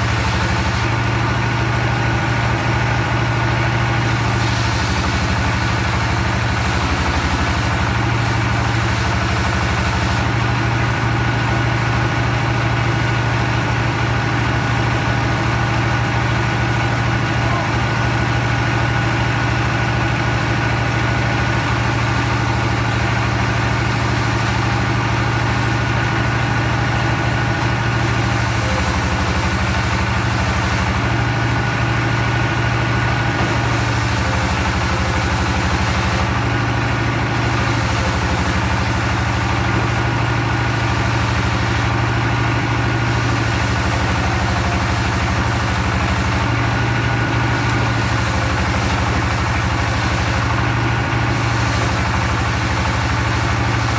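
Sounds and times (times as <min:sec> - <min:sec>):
machine engine running: 0:00.0 - 0:53.9.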